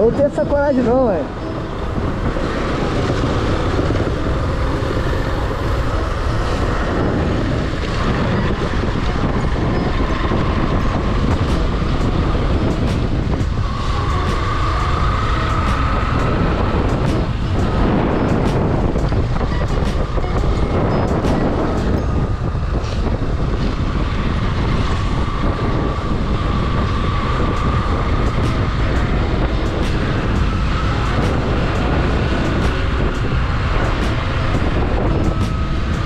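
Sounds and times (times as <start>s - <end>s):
wind buffeting microphone: 0.0s - 36.0s
motorcycle engine: 1.2s - 36.0s.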